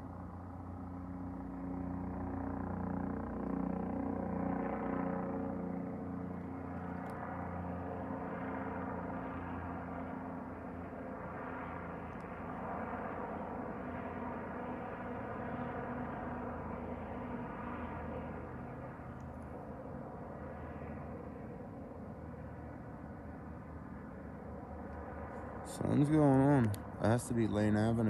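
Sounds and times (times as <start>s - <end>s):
engine drone: 0.0s - 28.0s.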